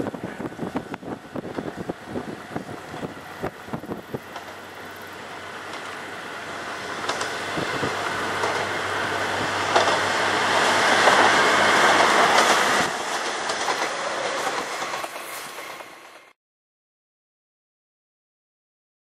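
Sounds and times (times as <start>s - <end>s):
diesel train passing: 0.0s - 16.4s
wheels clicking over rail joints: 0.0s - 16.4s.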